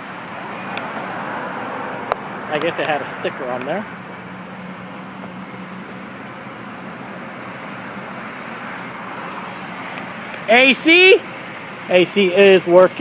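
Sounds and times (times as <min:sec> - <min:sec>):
pickup truck idling: 0:00.0 - 0:13.0.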